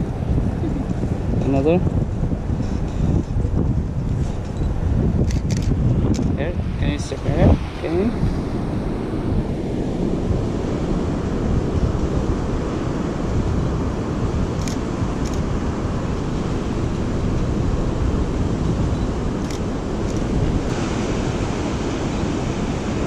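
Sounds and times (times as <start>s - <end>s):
ocean surf: 0.0s - 23.0s
wind rumbling on microphone: 0.0s - 23.0s.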